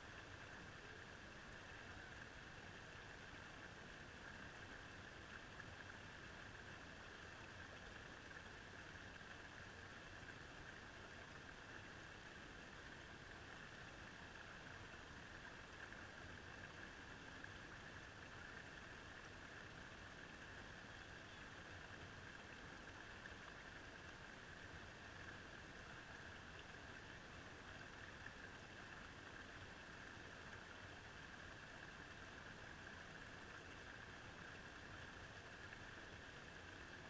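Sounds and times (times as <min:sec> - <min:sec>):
faint stream hiss: 0:00.0 - 0:37.0.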